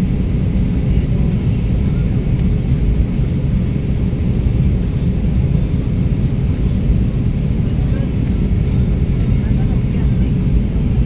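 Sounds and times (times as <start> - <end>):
airplane cabin low rumble: 0.0 - 11.0.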